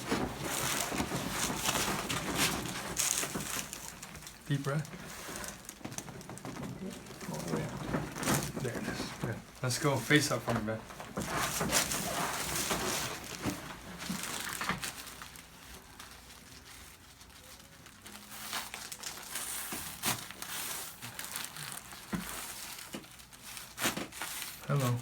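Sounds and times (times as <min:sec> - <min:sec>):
rustling and crinkling on table: 0:00.0 - 0:25.0.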